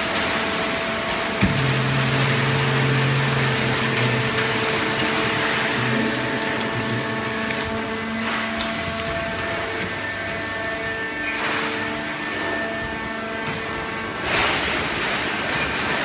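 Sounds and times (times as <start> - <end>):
hydraulic baler humming: 0.0 - 16.0.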